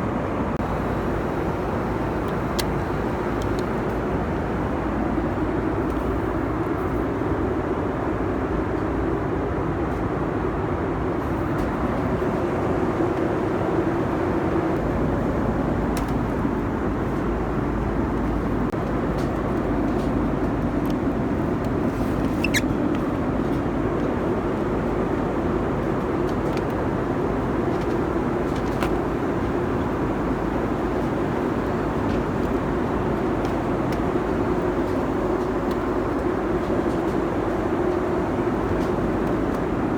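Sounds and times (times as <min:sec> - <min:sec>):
airflow and engine drone: 0:00.0 - 0:39.9.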